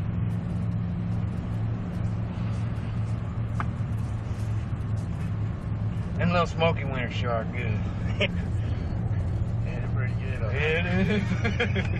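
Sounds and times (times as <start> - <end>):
car engine drone: 0.0 - 11.9
road noise: 0.0 - 11.9.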